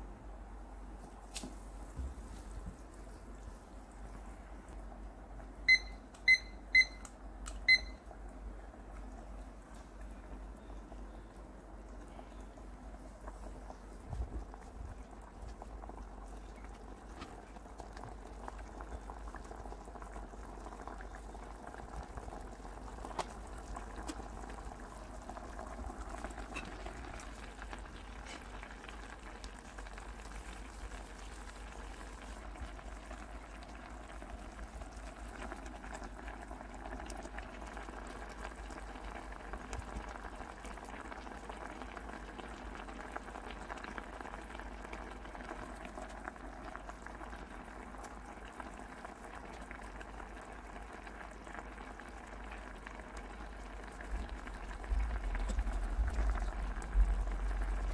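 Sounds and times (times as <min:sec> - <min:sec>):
water boiling and bubbling: 0:00.0 - 0:05.8, 0:06.5 - 0:57.9.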